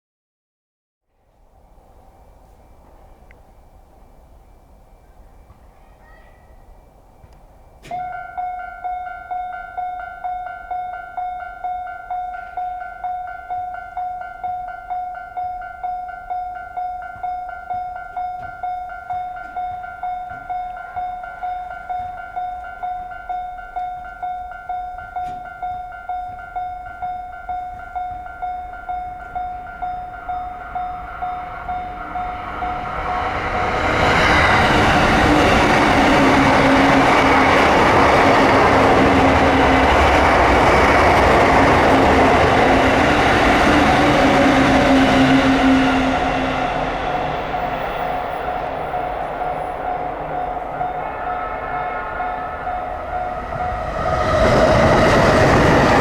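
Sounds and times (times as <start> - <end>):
train passing: 1.2 - 56.0
level-crossing bell ringing: 6.1 - 56.0.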